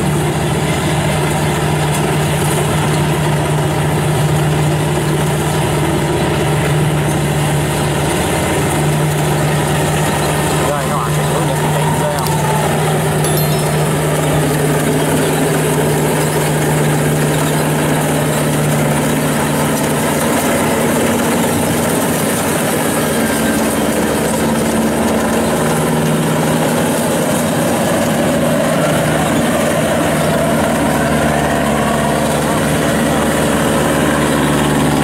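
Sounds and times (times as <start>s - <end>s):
combine harvester engine running: 0.0s - 35.0s.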